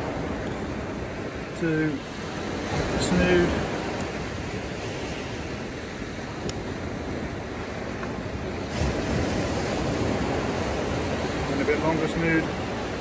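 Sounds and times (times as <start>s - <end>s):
sea washing onto beach: 0.0s - 13.0s.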